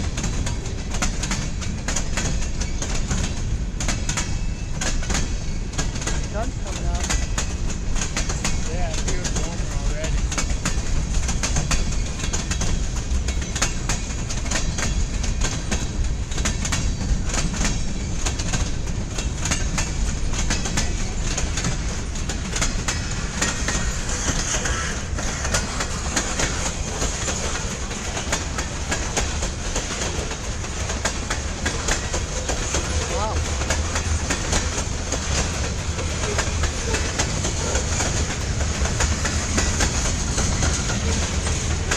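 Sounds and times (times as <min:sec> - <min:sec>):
freight cars rumbling: 0:00.0 - 0:41.9
wheels clacking over rail joints: 0:00.0 - 0:41.9.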